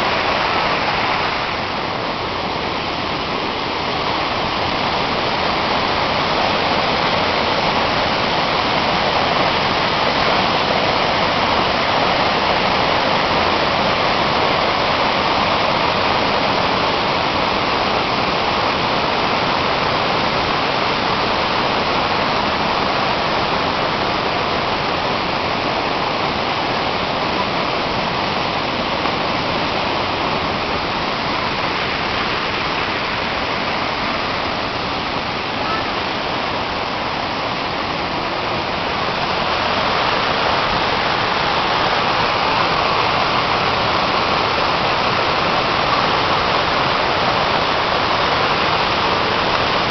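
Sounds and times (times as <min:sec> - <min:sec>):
waterfall thundering: 0:00.0 - 0:49.9.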